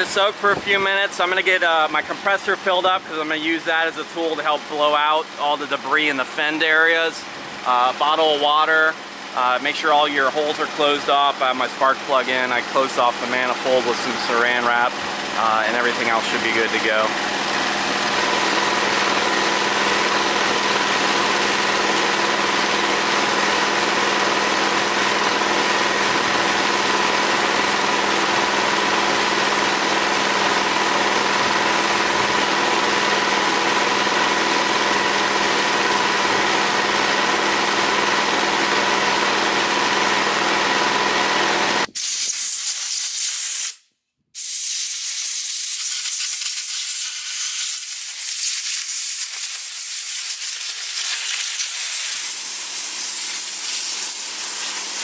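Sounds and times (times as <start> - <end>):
air compressor running: 0.0 - 43.8, 44.4 - 55.0.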